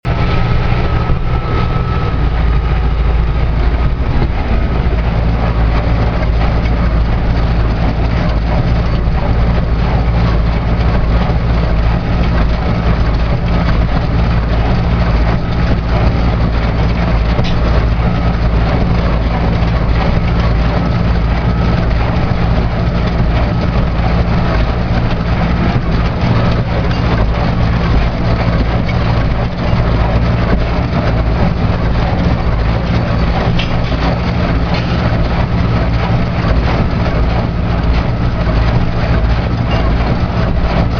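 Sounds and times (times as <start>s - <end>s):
baler mechanical clatter: 0.0s - 40.9s
tractor diesel engine running: 0.0s - 40.9s.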